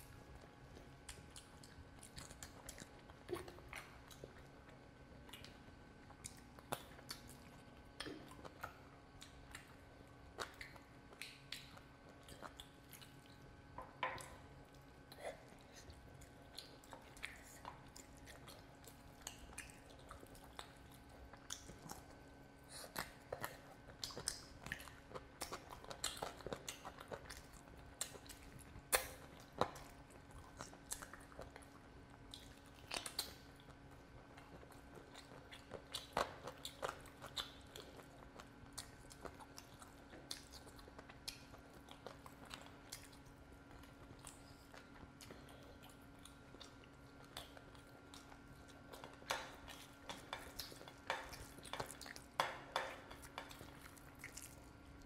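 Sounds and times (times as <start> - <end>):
faint steady hum: 0.0 - 55.0
person chewing and smacking: 0.0 - 55.0.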